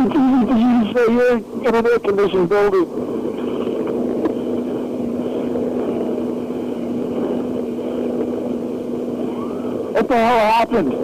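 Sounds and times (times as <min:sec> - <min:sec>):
constant low tone: 0:00.0 - 0:11.0.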